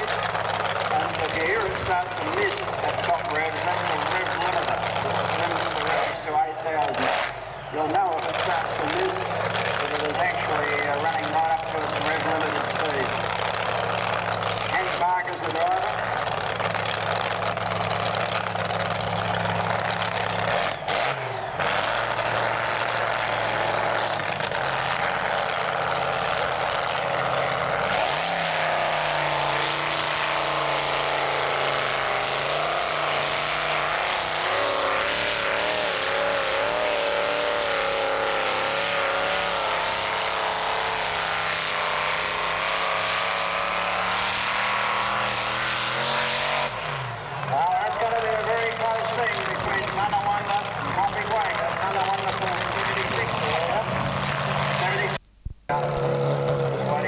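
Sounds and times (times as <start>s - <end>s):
tractor engine running loud: 0.0s - 57.0s.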